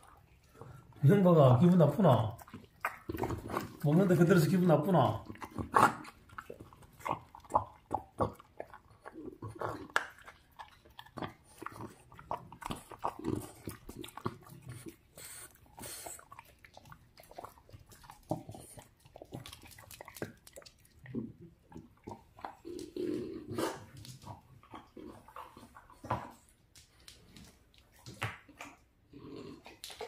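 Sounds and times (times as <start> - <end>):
dog chewing raw meat: 0.0 - 30.0.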